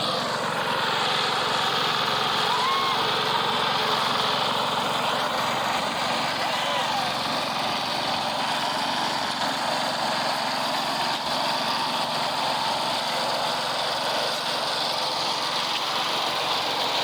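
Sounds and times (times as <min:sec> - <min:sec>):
construction machinery engine drone: 0:00.0 - 0:17.0.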